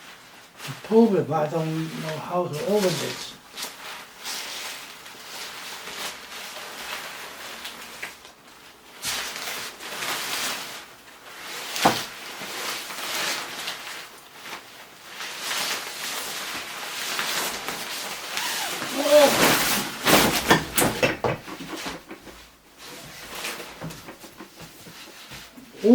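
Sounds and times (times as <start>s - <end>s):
packaging rustling and scraping: 1.8s - 25.9s.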